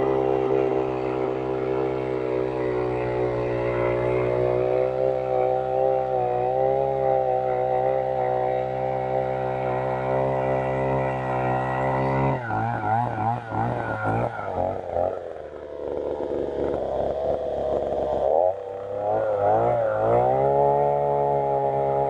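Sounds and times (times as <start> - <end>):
earth auger engine running: 0.0 - 22.0.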